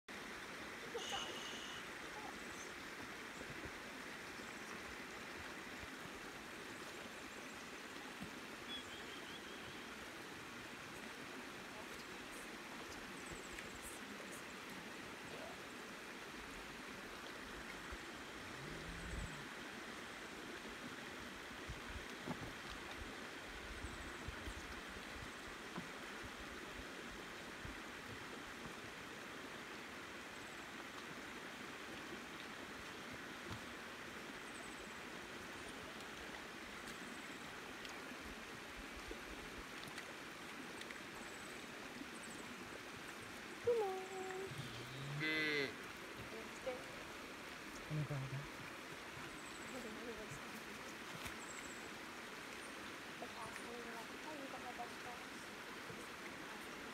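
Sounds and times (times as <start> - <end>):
river flowing over rocks: 0.1 - 56.9.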